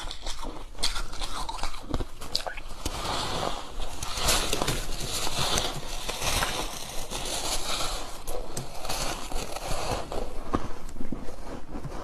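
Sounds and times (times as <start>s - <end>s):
ice being chewed: 0.0s - 12.0s.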